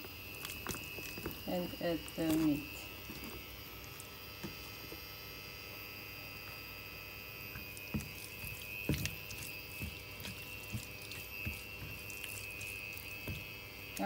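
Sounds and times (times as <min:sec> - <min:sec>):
meat squishing in pan: 0:00.0 - 0:05.2, 0:06.5 - 0:14.0
faint steady hum: 0:00.0 - 0:14.0.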